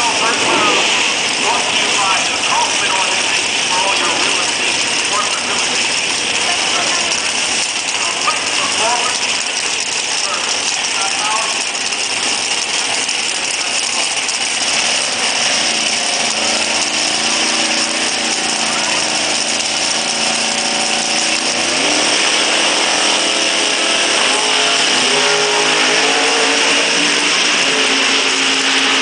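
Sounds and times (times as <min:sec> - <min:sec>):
drag racing car engines revving: 0:00.0 - 0:29.0.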